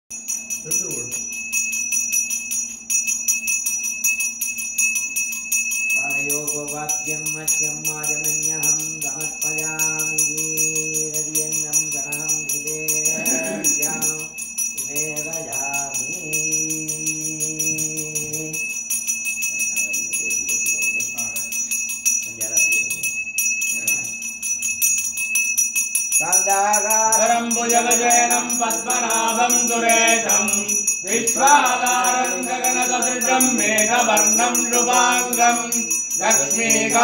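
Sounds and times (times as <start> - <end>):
temple bell ringing fast: 0.1 - 37.0.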